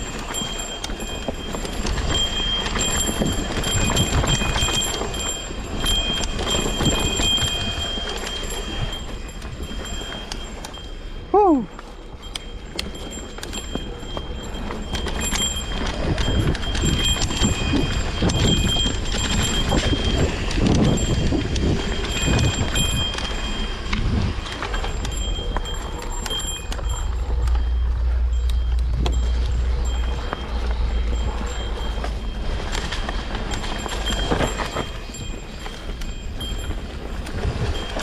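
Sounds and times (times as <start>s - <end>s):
mountain bike rattling: 0.0s - 38.0s
wind buffeting microphone: 0.0s - 38.0s.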